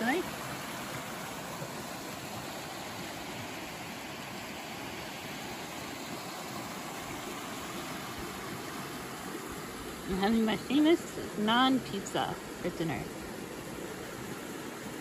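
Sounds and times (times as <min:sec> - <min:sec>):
creek rushing over stones: 0:00.0 - 0:15.0.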